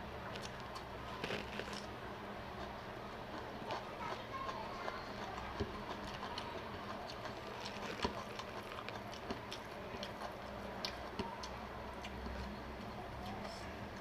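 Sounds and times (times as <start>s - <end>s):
person chewing: 0.3s - 14.0s.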